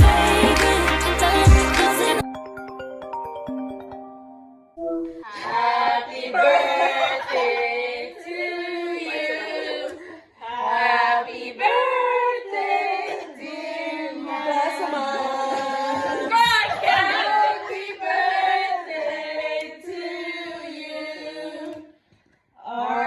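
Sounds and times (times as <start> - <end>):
voices singing in harmony: 0.0 - 2.2, 5.2 - 22.0, 22.6 - 23.0.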